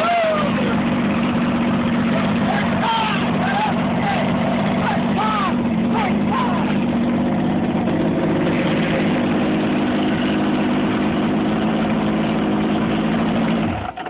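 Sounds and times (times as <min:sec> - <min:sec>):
outboard motor idling: 0:00.0 - 0:14.0.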